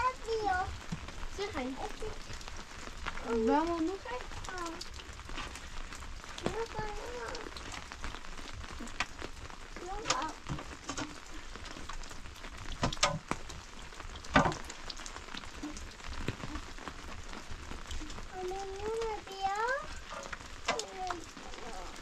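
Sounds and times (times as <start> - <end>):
loose soil crackling: 0.0 - 22.0.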